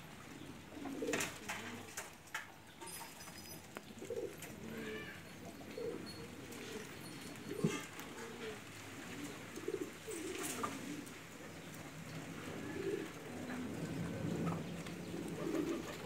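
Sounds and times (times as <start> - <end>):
pigeons cooing: 0.0 - 2.2, 3.9 - 16.0.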